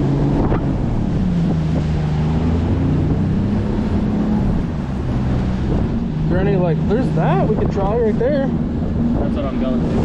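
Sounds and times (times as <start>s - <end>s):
boat motor humming: 0.0s - 10.0s
wind buffeting microphone: 0.0s - 10.0s.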